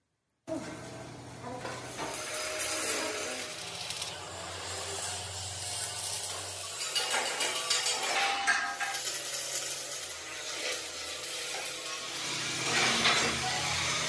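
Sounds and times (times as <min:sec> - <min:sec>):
arc welding crackle: 0:00.0 - 0:14.0.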